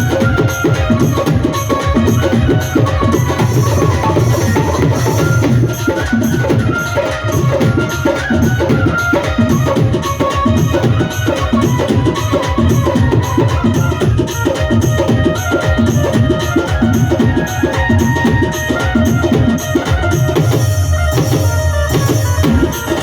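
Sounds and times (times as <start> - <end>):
music with drums: 0.0 - 23.0.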